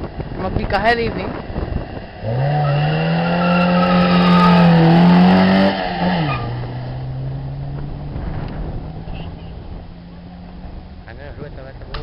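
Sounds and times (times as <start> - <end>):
car engine revving: 1.2 - 12.0.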